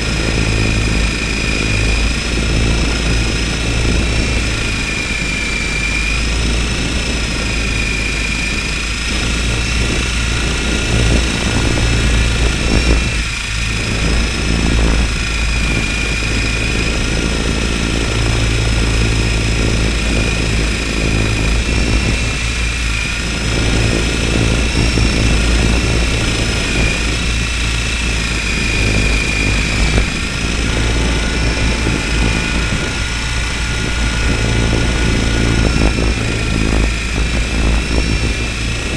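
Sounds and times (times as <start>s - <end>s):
high motor whine: 0.0s - 38.9s
low rotor drone: 0.0s - 38.9s.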